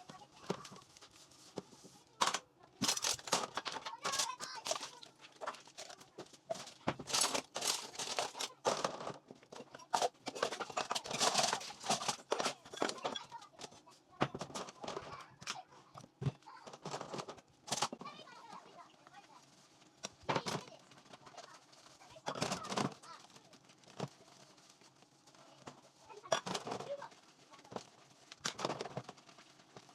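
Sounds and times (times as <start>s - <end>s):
things clattering and crinkling: 0.0s - 29.9s.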